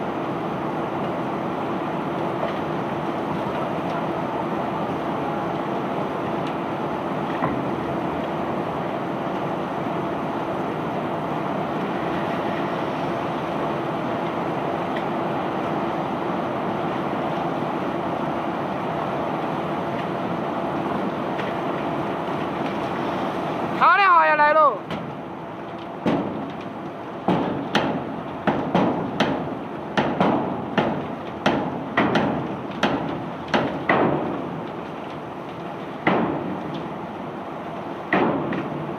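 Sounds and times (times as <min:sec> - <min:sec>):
machinery mechanical drone: 0:00.0 - 0:38.9.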